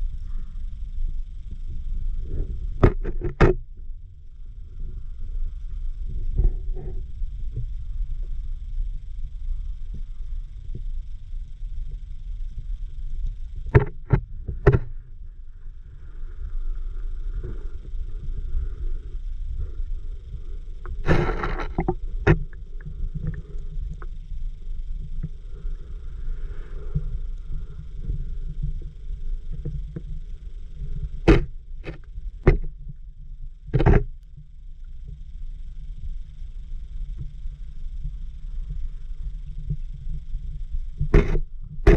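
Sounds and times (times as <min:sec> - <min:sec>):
muffled underwater river rumble: 0:00.0 - 0:41.9.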